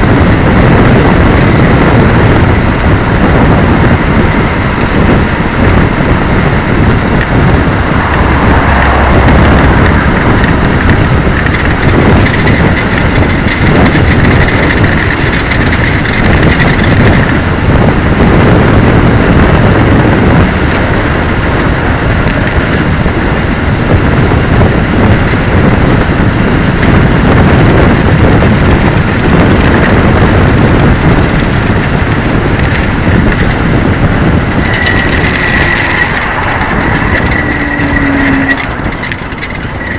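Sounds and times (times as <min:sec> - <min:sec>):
vehicle running noise: 0:00.0 - 0:39.9
wind noise on microphone: 0:00.0 - 0:39.9.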